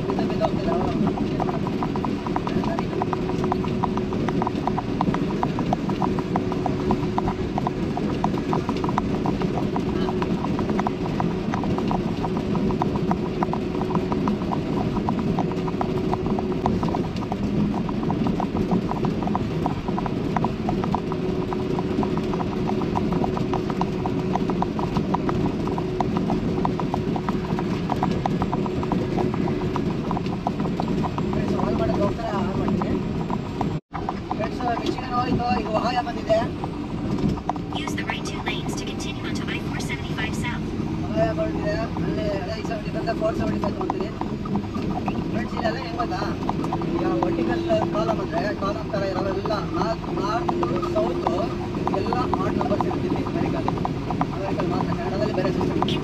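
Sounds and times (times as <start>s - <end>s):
irregular rattle of clicks: 0.0s - 56.0s
vehicle cab drone: 0.0s - 56.0s.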